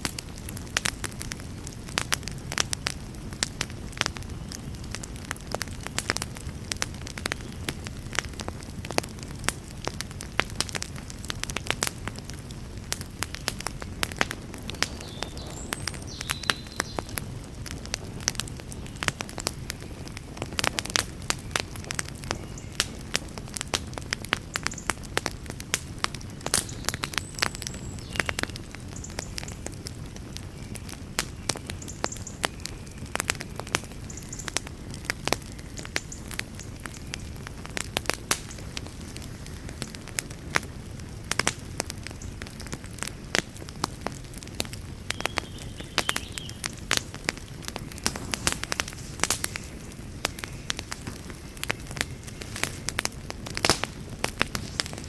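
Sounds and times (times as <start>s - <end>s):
campfire wood crackling: 0.0s - 55.0s.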